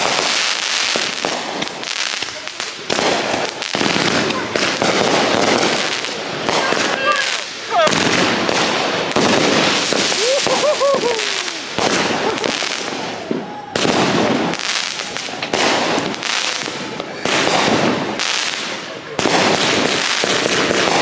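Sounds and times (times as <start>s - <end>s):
fireworks crackling volleys: 0.0s - 21.0s.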